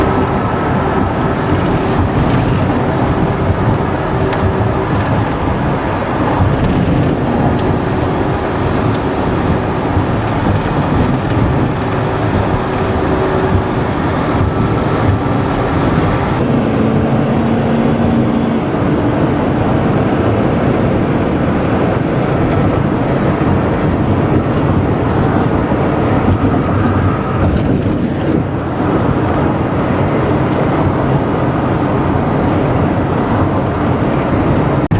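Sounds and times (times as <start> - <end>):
road traffic rumble: 0.0 - 34.9.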